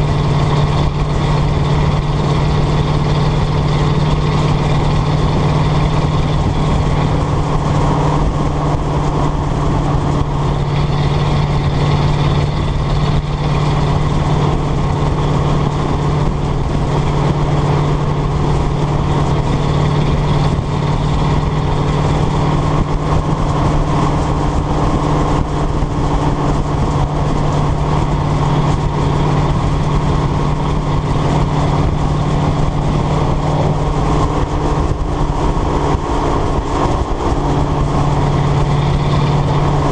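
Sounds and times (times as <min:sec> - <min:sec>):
truck exhaust droning: 0:00.0 - 0:39.9.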